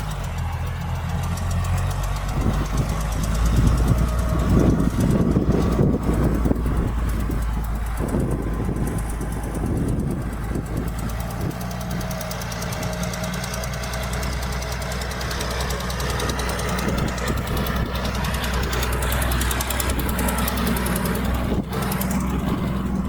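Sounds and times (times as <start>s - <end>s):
diesel engine clattering: 0.0s - 23.0s.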